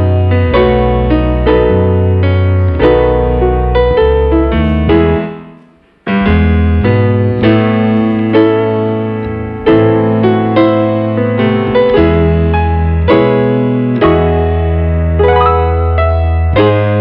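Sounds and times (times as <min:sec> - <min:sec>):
piano playing chords: 0:00.0 - 0:17.0.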